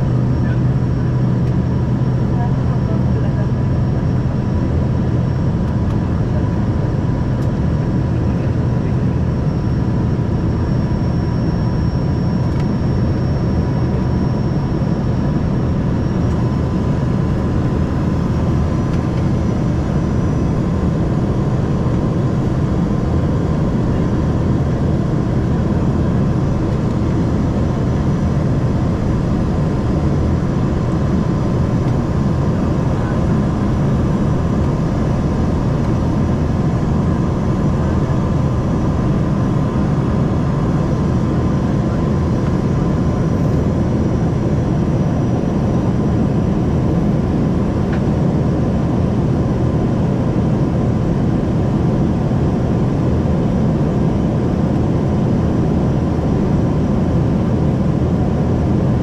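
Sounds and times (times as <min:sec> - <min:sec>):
jet engines and airflow rumble: 0:00.0 - 0:59.0.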